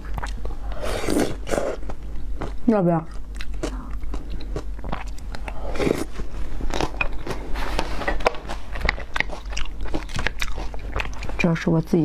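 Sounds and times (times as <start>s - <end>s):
person chewing crunchy food: 0.0s - 11.5s
steady low hum: 0.0s - 12.0s.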